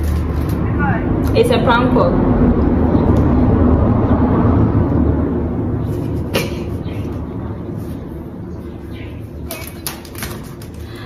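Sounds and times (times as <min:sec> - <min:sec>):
motor vehicle engine rumble: 0:00.0 - 0:11.0.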